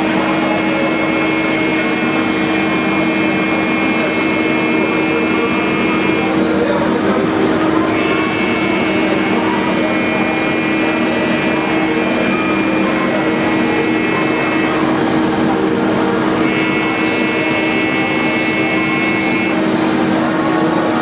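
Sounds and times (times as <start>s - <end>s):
lathe high whine: 0.0s - 21.0s
machine hum: 0.0s - 21.0s.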